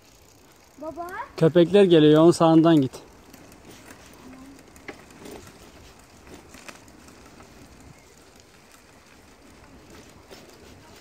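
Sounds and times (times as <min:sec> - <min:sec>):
bicycle clicks and rattles: 0:00.0 - 0:11.0
bicycle tyres hissing on wet asphalt: 0:00.0 - 0:11.0.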